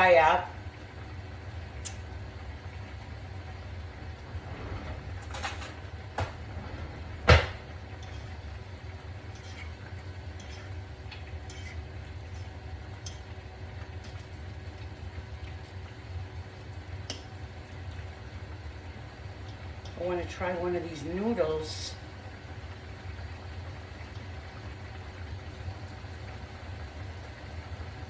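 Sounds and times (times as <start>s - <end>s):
pan simmering: 0.0s - 28.0s
steady low kitchen hum: 0.0s - 28.0s.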